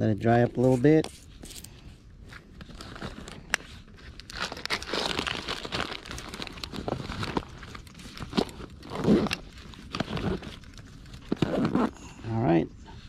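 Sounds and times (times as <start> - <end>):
rustling and crinkling fabric bag: 0.0 - 12.4.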